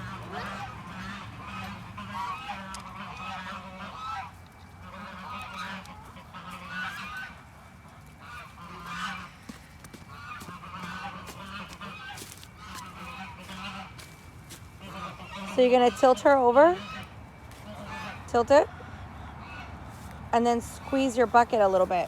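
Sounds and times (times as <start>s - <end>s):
fowl calling: 0.0s - 22.0s.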